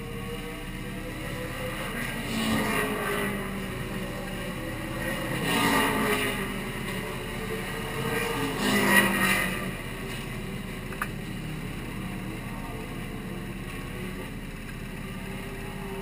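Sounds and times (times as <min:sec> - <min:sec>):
race car engines passing: 0:00.0 - 0:16.0.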